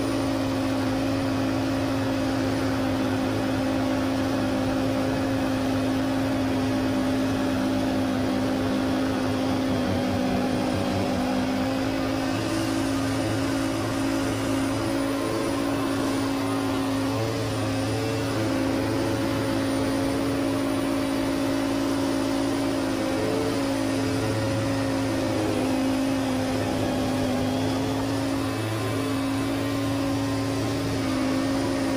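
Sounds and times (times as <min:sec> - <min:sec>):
lawn tractor engine running: 0:00.0 - 0:31.9
snowblower through wet snow: 0:00.0 - 0:31.9.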